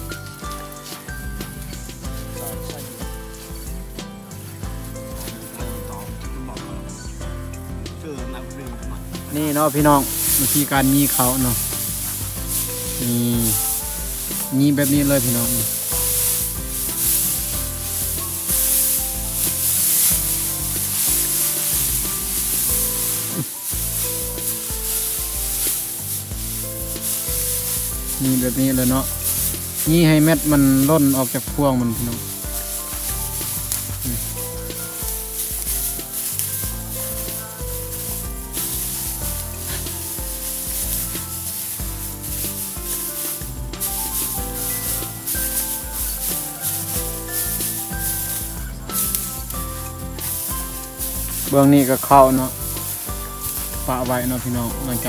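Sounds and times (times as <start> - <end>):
music: 0.0 - 55.0
rice sheaves rustling underfoot: 0.0 - 55.0.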